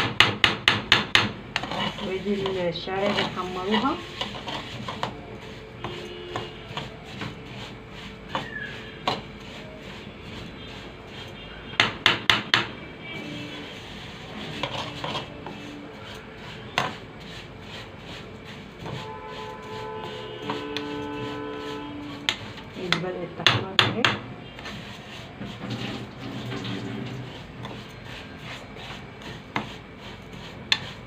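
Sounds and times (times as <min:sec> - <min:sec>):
spoon scraping a cooking pot: 0:00.8 - 0:31.0.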